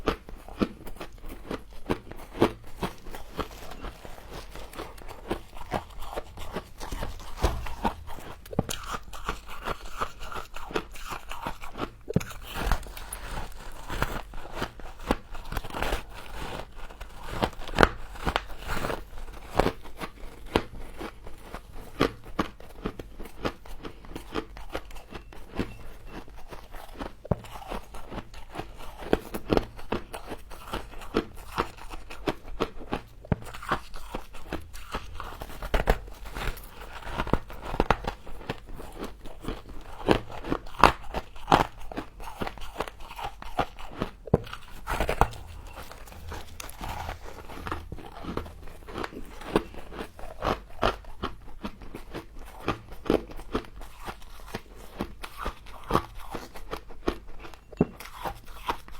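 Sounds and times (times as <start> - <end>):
frost being chewed: 0.0 - 58.9.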